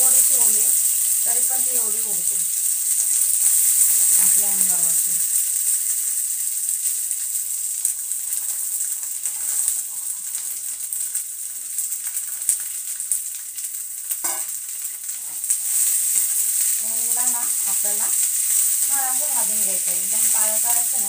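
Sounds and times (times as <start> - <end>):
beans sizzling and popping in oil: 0.0 - 21.0.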